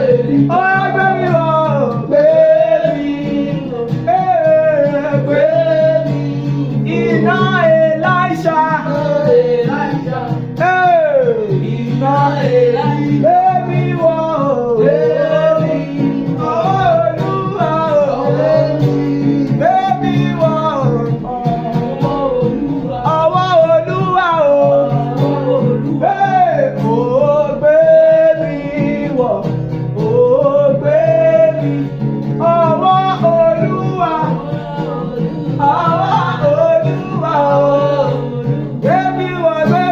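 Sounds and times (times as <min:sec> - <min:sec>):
man singing gospel: 0:00.0 - 0:39.9.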